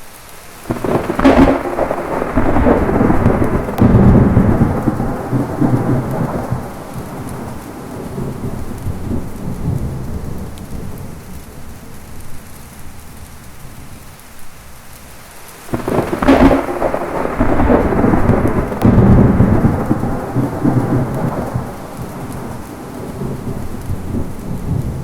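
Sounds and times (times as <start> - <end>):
heavy rain: 0.0 - 25.0
thunderclap rolling into rumble: 0.7 - 14.2, 15.7 - 25.0.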